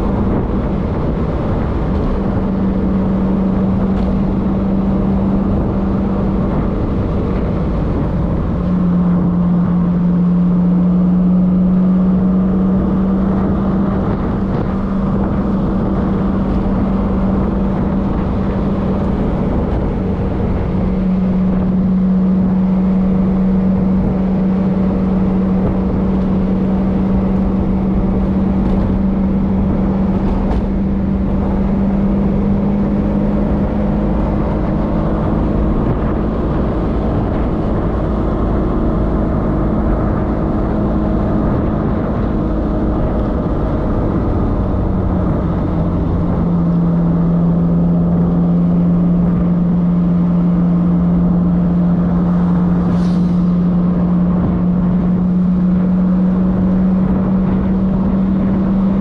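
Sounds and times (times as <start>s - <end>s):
car engine running: 0.0s - 59.0s
road noise: 0.0s - 59.0s
wind: 0.0s - 59.0s.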